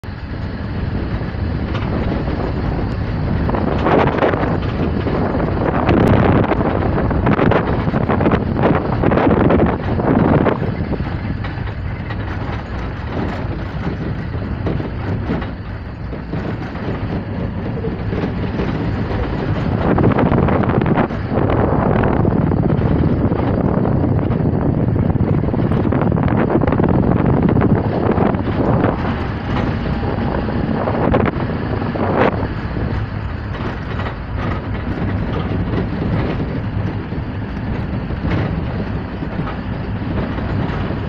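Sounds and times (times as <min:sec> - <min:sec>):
vehicle engine and tyres on dirt: 0:00.0 - 0:41.0.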